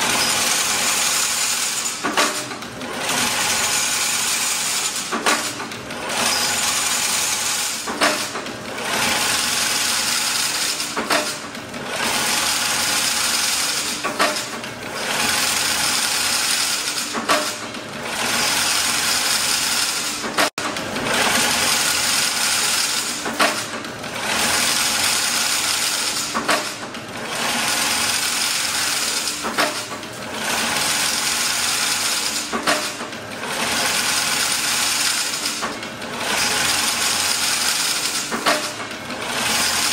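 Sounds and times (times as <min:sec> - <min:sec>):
fence weaving machine clatter: 0:00.0 - 0:39.9
sharp machine clack: 0:00.0 - 0:39.9.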